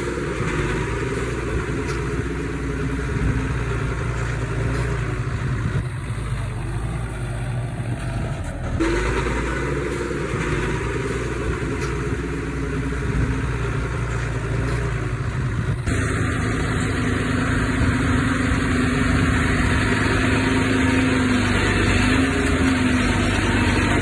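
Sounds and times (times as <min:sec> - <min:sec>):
heavy equipment diesel engine: 0:00.0 - 0:24.0.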